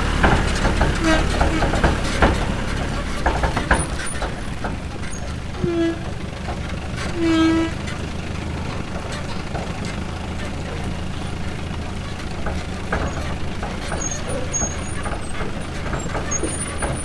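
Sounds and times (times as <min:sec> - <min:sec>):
heavy vehicle engine rumble: 0:00.0 - 0:17.0.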